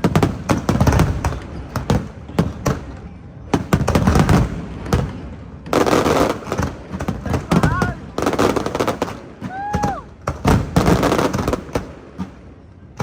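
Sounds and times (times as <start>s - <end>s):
firework crackling: 0.0s - 13.0s.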